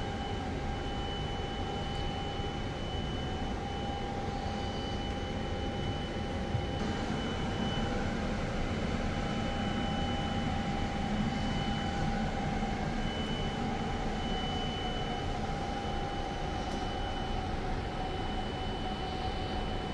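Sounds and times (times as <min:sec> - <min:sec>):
cooling fans humming: 0:00.0 - 0:19.9
steady whining tones: 0:00.0 - 0:19.9.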